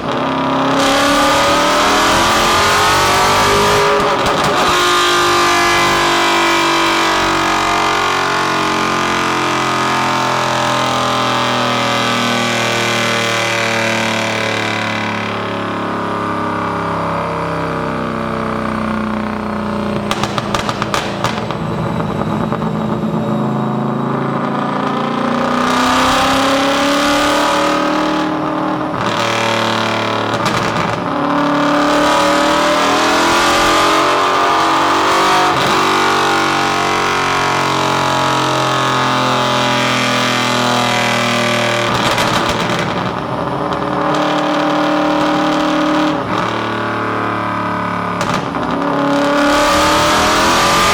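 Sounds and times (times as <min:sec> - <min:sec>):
car engine revving: 0:00.0 - 0:50.9
exhaust crackles: 0:00.0 - 0:50.9.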